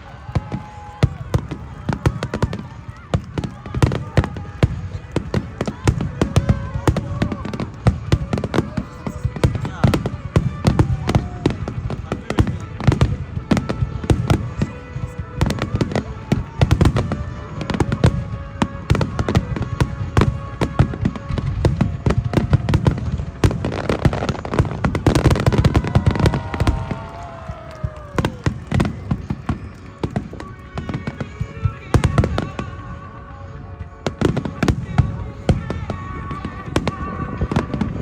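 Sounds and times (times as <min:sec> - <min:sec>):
deep fireworks booms: 0:00.0 - 0:38.0
fireworks bangs and crackling: 0:00.0 - 0:38.0.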